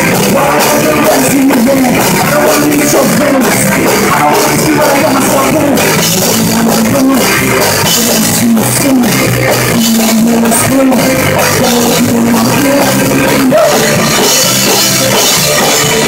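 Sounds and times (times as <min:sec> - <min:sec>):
drums: 0:00.0 - 0:16.0
electric guitar: 0:00.0 - 0:16.0
man singing: 0:00.0 - 0:16.0.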